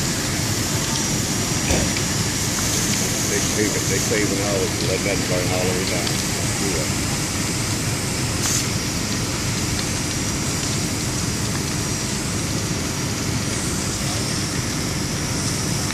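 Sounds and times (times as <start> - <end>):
fire hoses spraying water: 0.0 - 15.9
fire roaring: 0.0 - 15.9
low engine rumble: 0.0 - 15.9.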